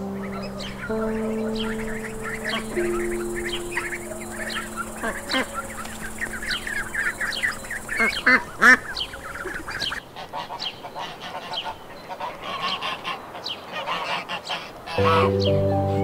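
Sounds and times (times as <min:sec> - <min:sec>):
ducklings peeping: 0:00.0 - 0:15.5
geese honking: 0:00.0 - 0:15.5.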